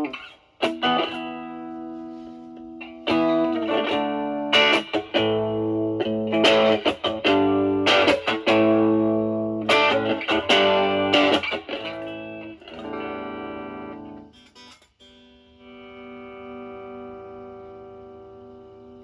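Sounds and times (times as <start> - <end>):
overdriven electric guitar chords: 0.0 - 19.0.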